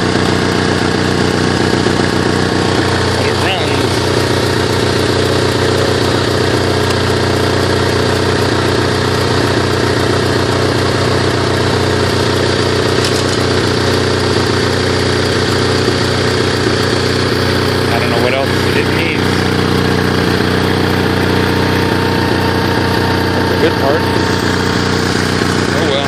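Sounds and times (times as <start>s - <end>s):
generator running steadily: 0.0s - 26.0s.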